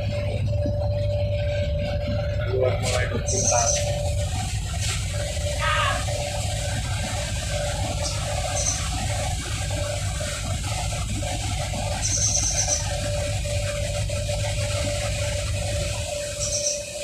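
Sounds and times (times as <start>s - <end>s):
boat engines rumbling: 0.0s - 17.0s
faint steady hum: 0.0s - 17.0s.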